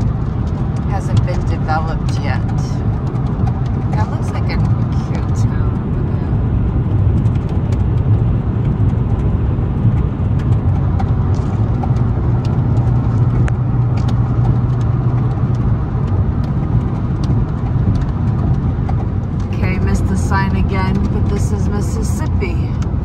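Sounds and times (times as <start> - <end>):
car tyre and engine rumble: 0.0 - 23.0.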